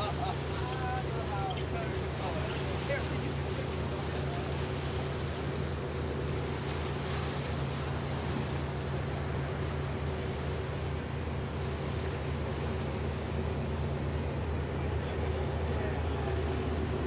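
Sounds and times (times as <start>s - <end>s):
boat engine droning: 0.0s - 17.0s
choppy water rushing: 0.0s - 17.0s
wind: 0.0s - 17.0s.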